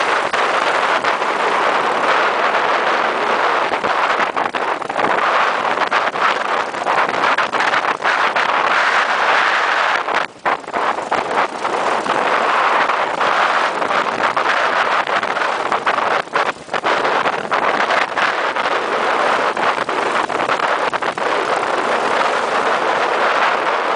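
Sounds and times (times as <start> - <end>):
buggy engine and road noise: 0.0 - 23.9.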